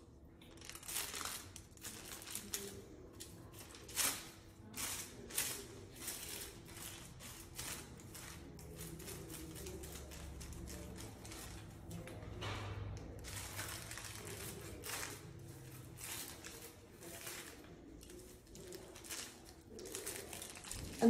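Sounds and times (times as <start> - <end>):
foil crinkling: 0.4 - 12.4, 13.0 - 21.0.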